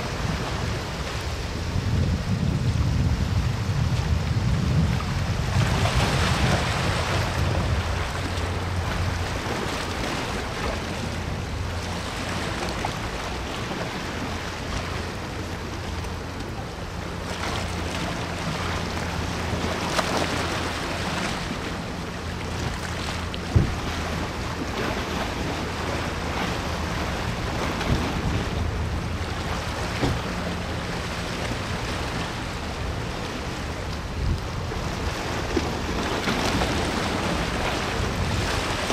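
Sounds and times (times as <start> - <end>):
ship low drone: 0.0 - 38.9
wind rumbling on microphone: 0.0 - 38.9.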